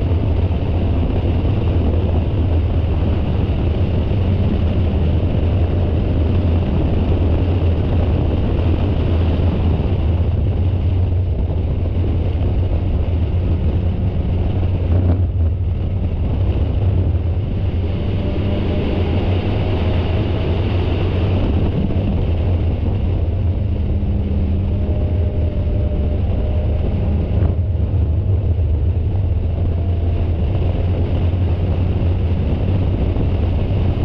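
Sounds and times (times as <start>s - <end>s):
race car engine running hard: 0.0s - 34.0s
road noise: 0.0s - 34.0s
wind noise: 0.0s - 34.0s.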